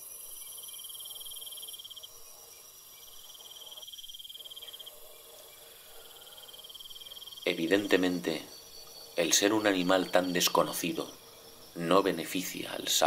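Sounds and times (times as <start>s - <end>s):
cricket trilling: 0.0s - 13.0s
high-pitched insect sound: 0.0s - 13.0s.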